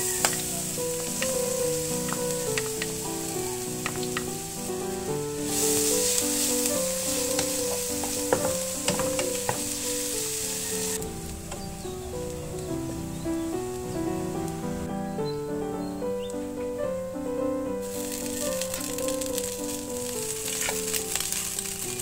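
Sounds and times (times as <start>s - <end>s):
garlic sizzling in hot oil: 0.0s - 14.6s, 17.8s - 22.0s.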